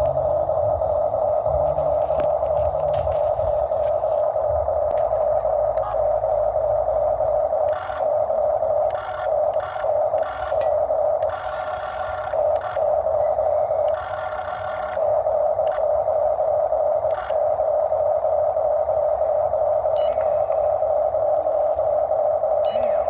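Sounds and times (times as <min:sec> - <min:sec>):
machinery droning: 0:00.0 - 0:23.0.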